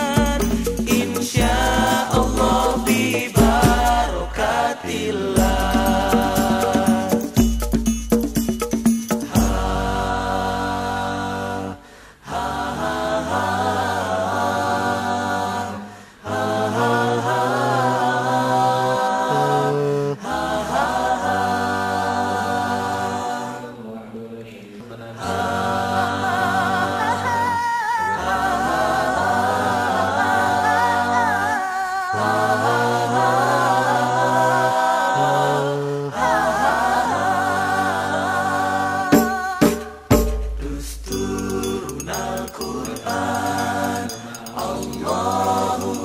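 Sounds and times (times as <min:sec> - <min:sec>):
held bass vocal line: 0:00.0 - 0:08.3, 0:09.1 - 0:21.8, 0:25.3 - 0:46.0
group singing a cappella: 0:00.0 - 0:46.0.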